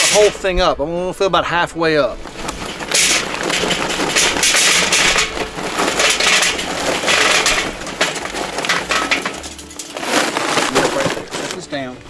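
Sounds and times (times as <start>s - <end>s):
charcoal briquettes pouring into metal: 0.0s - 0.5s, 2.2s - 11.9s.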